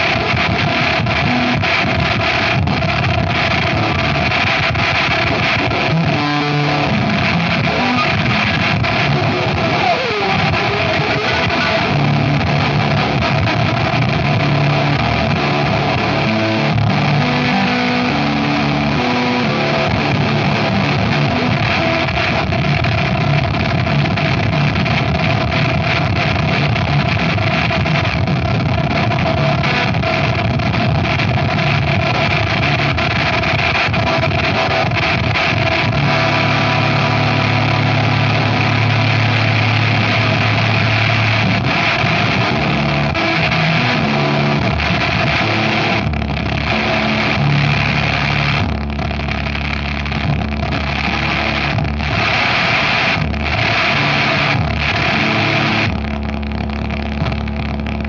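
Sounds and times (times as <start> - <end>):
wall of distorted noise: 0.0 - 58.0.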